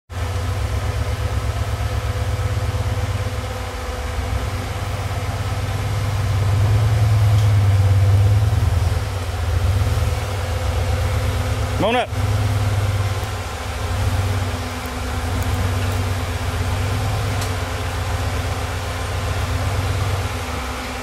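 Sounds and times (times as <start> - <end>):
off-road vehicle engine at low revs: 0.1 - 21.0.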